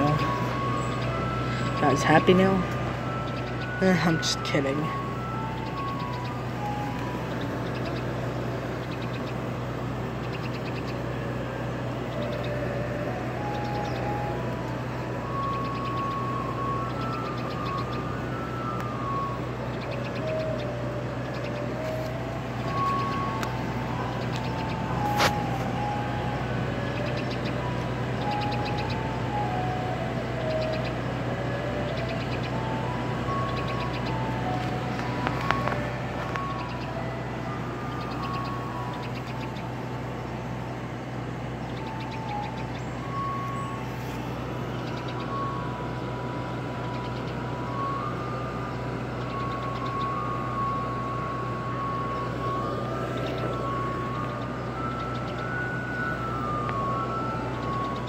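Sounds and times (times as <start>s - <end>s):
ice cream truck chime jingle: 0.0s - 58.0s
low engine hum: 0.0s - 58.0s.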